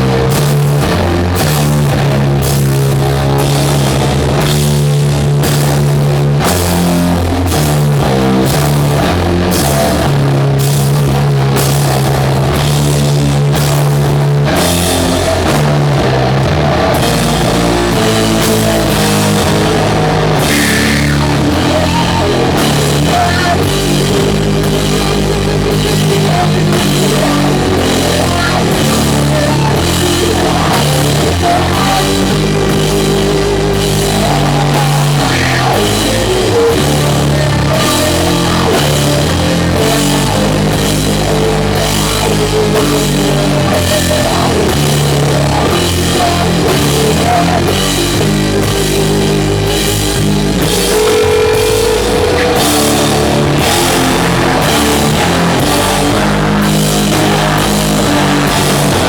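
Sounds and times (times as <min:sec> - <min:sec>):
distorted guitar and bass chords: 0:00.0 - 0:59.0
steady drum beat: 0:00.0 - 0:59.0.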